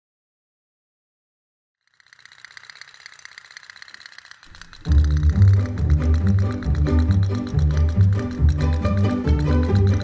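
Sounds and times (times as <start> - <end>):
toy steam boat putt-putt: 1.9 - 10.0.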